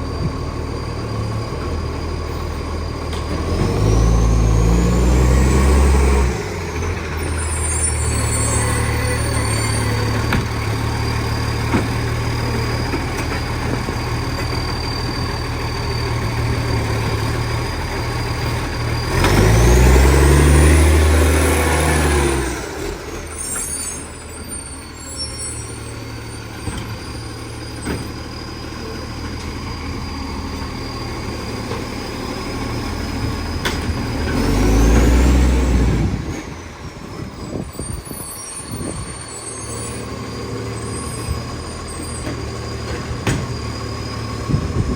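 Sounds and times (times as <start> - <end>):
diesel engine idling and revving: 0.0 - 44.9.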